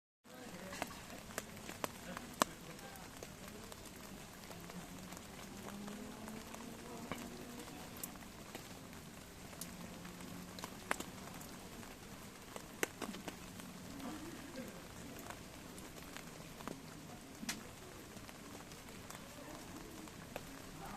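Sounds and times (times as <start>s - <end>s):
wood fire crackling: 0.3s - 20.9s.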